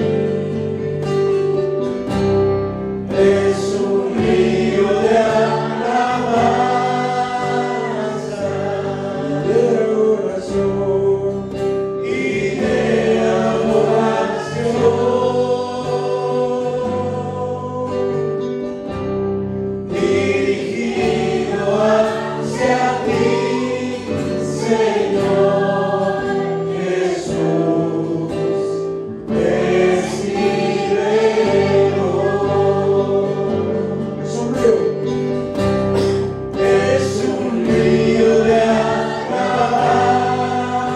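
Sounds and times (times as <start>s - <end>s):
choir singing gospel song: 0.0s - 1.5s, 2.1s - 40.9s.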